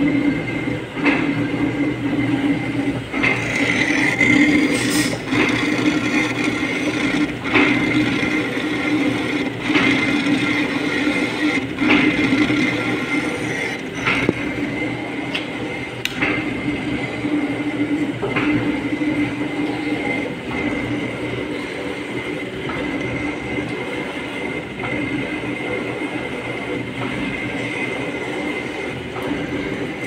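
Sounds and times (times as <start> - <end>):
metal lathe drone: 0.0 - 30.0.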